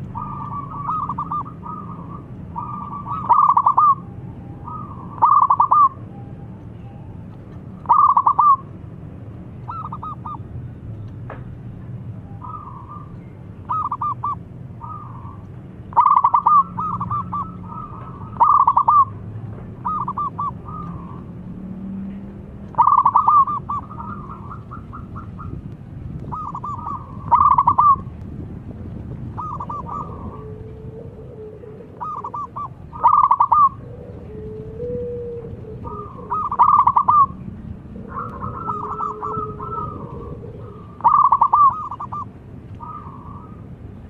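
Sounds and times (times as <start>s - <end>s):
dove cooing: 0.0s - 6.0s, 7.8s - 8.7s, 9.7s - 10.4s, 12.4s - 21.4s, 22.7s - 25.6s, 26.2s - 28.1s, 29.3s - 43.6s.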